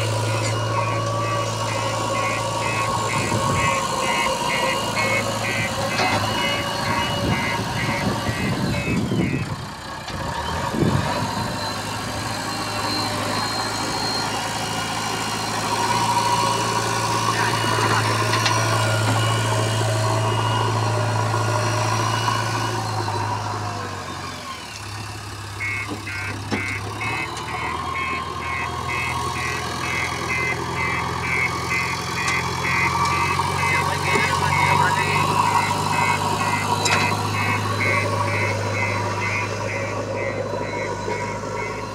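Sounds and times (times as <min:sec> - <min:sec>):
electronic warning beeper: 0:00.0 - 0:09.6, 0:11.2 - 0:23.3, 0:25.6 - 0:41.9
diesel engine running: 0:00.0 - 0:41.9.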